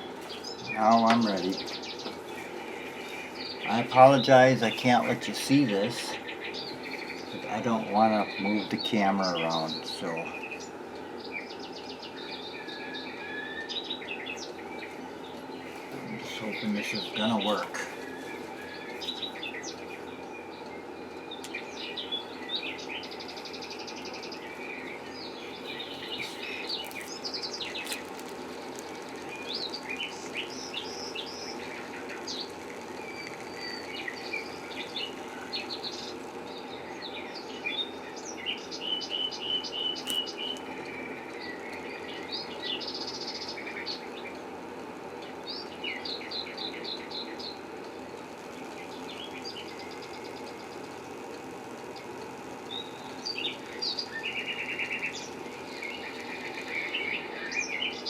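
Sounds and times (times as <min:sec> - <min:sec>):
machine hum: 0:00.0 - 0:58.0
small birds chirping: 0:00.0 - 0:58.0.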